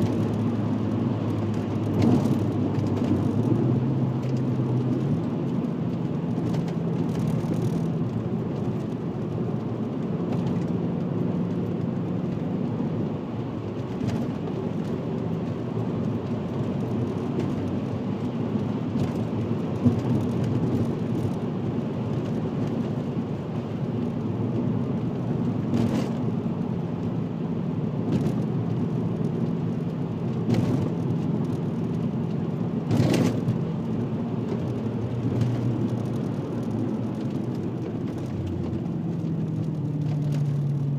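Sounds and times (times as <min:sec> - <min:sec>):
car engine droning: 0:00.0 - 0:40.9
tyre and road noise: 0:00.0 - 0:40.9.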